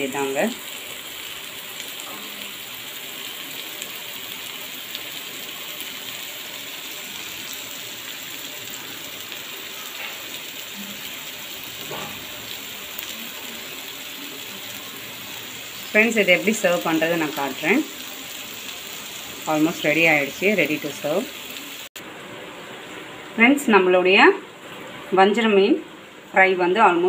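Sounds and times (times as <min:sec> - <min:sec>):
fish sizzling in oil: 0:00.0 - 0:22.2.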